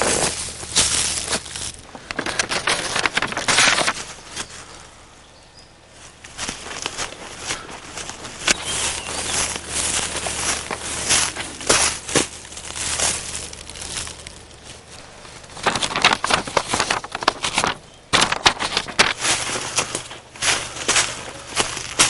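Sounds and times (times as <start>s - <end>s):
footsteps rustling through tall grass: 0.0s - 4.9s, 5.9s - 22.0s.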